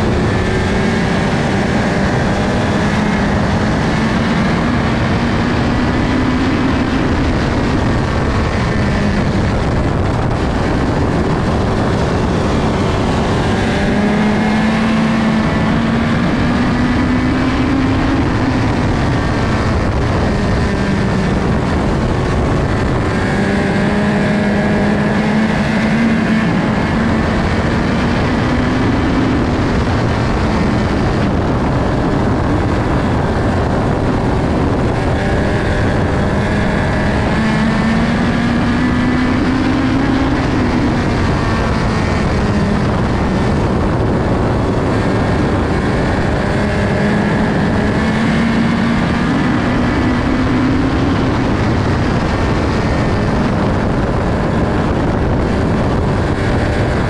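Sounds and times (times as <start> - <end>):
race car engine at high revs: 0.0 - 57.0
wind noise: 0.0 - 57.0.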